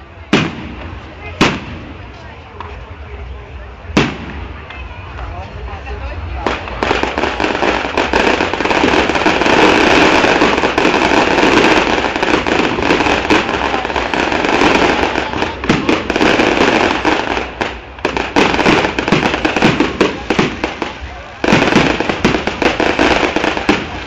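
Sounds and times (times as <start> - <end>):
firecrackers crackling: 0.0 - 24.0.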